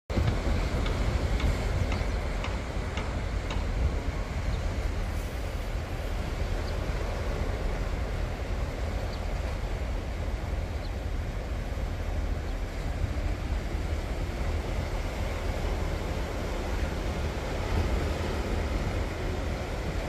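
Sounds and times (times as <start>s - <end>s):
small waves washing onto beach: 0.1s - 20.0s.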